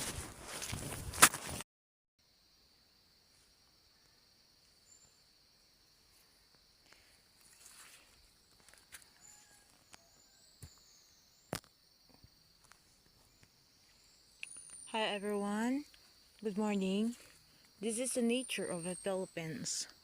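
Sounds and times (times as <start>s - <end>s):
high insect drone: 2.2s - 20.0s.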